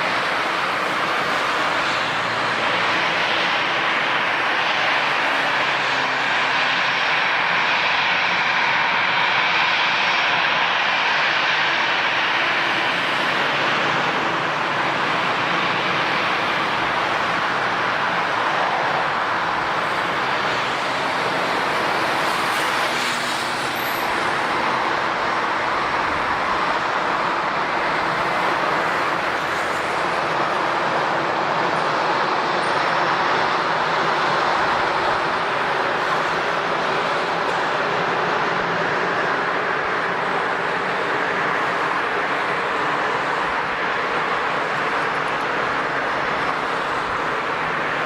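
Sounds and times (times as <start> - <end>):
jet engines running: 0.0 - 48.0.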